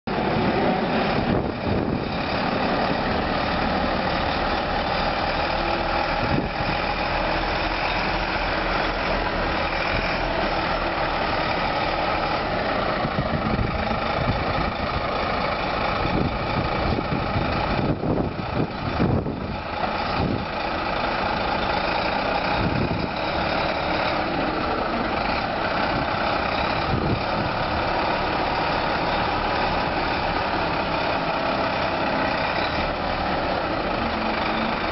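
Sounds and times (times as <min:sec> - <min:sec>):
truck diesel engine at low revs: 0:00.1 - 0:34.9.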